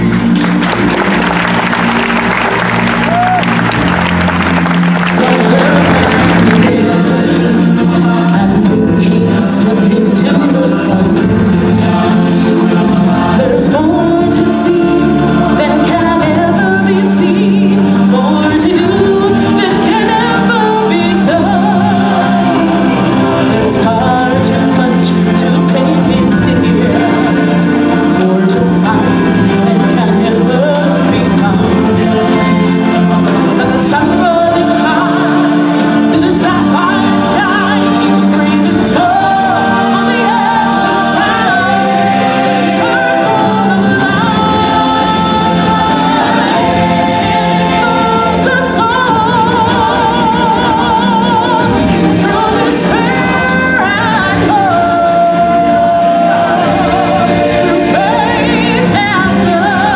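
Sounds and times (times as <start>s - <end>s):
backing music: 0.0s - 59.9s
singers with vibrato: 0.0s - 59.9s.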